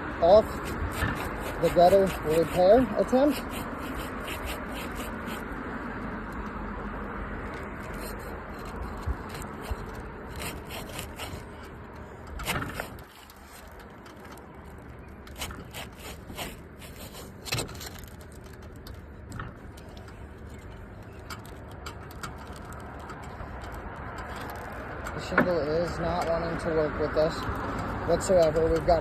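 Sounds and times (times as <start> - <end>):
tool scraping under roof shingles: 0.2 - 5.6, 7.4 - 25.5.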